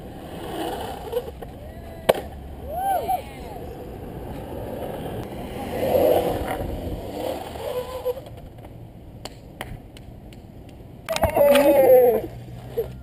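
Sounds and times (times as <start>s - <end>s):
longboard wheels rolling on asphalt: 0.0s - 13.0s.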